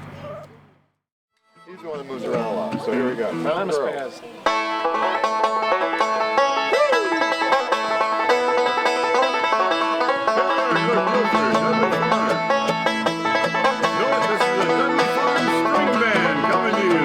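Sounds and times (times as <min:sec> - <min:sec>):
string instruments: 0:01.4 - 0:17.0
banjo picking: 0:01.6 - 0:17.0.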